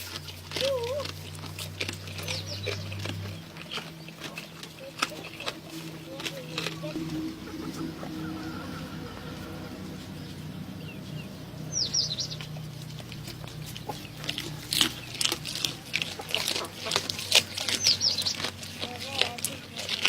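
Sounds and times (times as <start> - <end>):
chickens calling: 0.0 - 20.0
steady low hum: 1.2 - 19.0.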